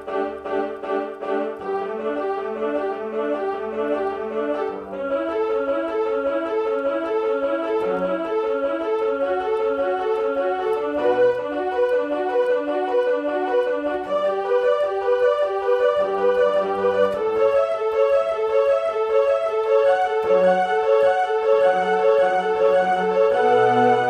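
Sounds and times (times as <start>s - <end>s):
keyboard melody notes: 0.0s - 24.0s.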